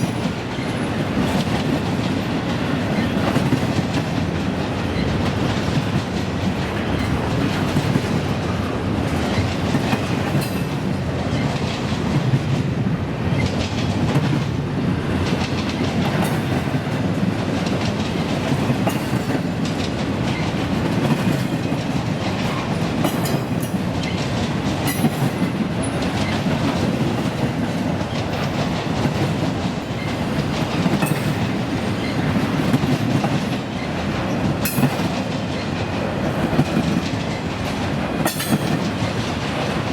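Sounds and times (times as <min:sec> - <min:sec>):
freight train cars rumbling: 0:00.0 - 0:39.9
wheels clacking over rail joints: 0:00.0 - 0:39.9.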